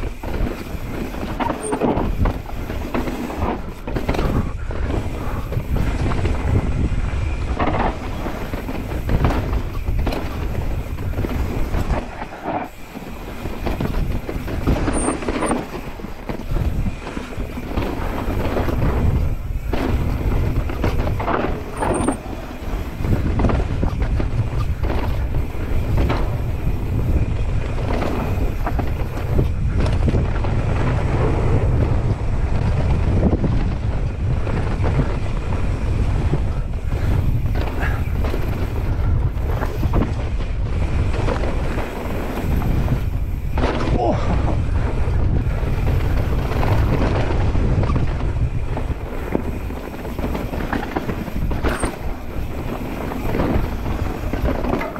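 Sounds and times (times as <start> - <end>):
bike clattering over rough ground: 0.0 - 54.9
bike tyre noise: 0.0 - 54.9
wind rumble on microphone: 0.0 - 54.9.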